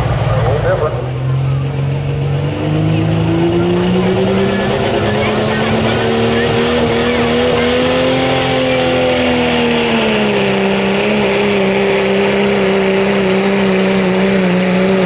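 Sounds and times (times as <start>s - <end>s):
diesel engine under full load: 0.0s - 15.0s.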